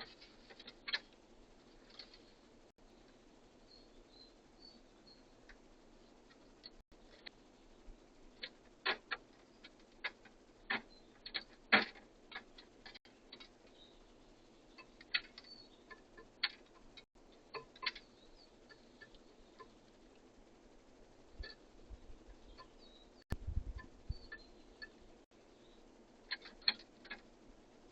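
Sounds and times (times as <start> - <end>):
birds pecking at feeder: 0.0 - 3.5, 4.3 - 27.9.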